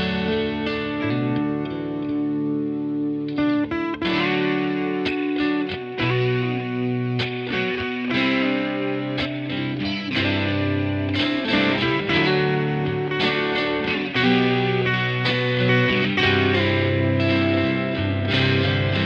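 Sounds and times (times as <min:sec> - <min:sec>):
electric guitar music with effects: 0:00.0 - 0:19.0.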